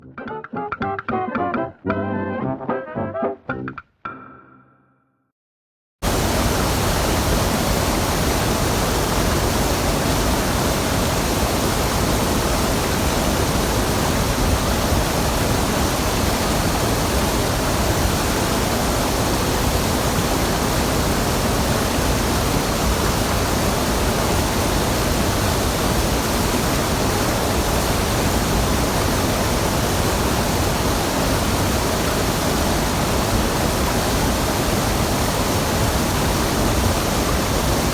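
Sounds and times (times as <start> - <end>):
waterfall and stream rushing: 6.0 - 37.9.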